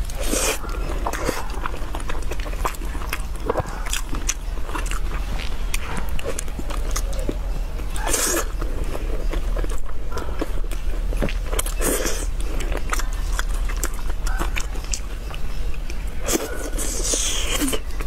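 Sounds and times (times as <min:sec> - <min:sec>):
steady low hum: 0:00.0 - 0:18.0
wet chewing and biting: 0:00.0 - 0:18.0.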